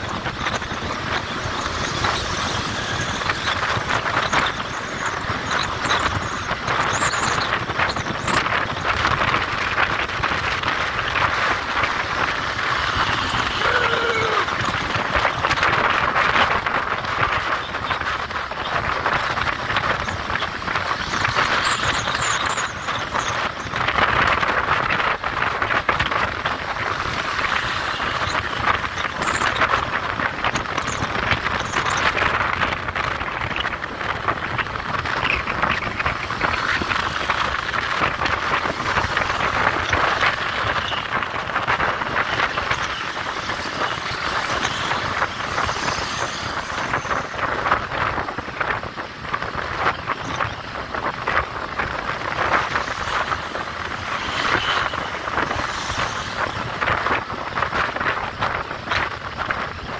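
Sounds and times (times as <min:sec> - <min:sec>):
motorbike engines running: 0:00.0 - 0:59.9
road noise: 0:00.0 - 0:59.9
wind rushing: 0:00.0 - 0:59.9.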